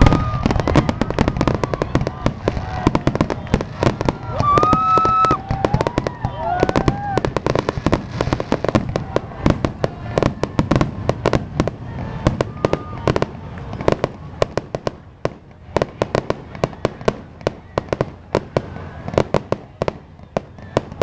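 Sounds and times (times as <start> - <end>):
firecrackers popping: 0.0 - 21.0.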